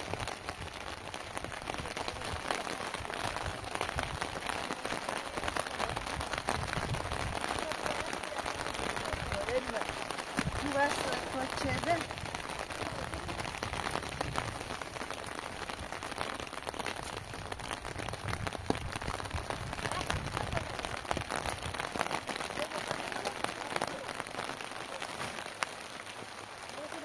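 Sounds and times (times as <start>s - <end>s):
rain on plastic sheeting: 0.0s - 27.0s.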